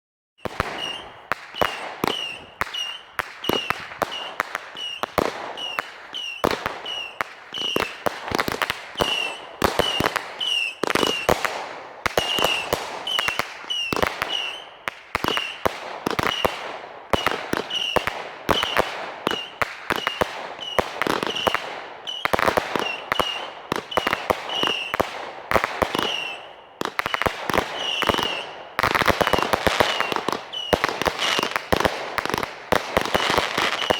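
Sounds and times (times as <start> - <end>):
fireworks bangs: 0.4 - 33.9.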